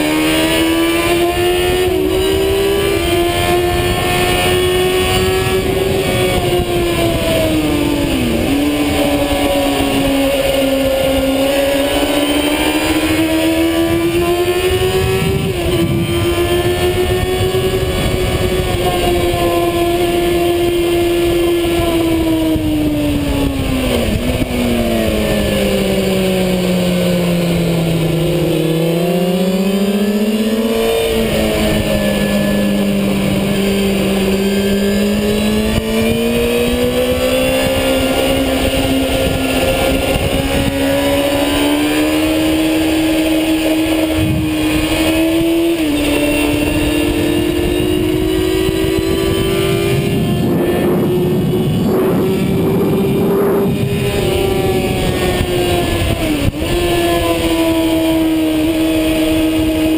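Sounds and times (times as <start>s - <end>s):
racing motorcycle engine revving: 0.0s - 59.9s
rush of wind: 0.0s - 59.9s.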